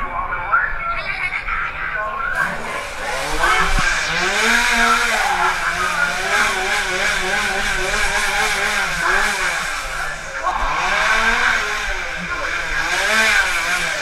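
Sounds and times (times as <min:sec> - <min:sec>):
small engine revving: 0:02.3 - 0:14.0.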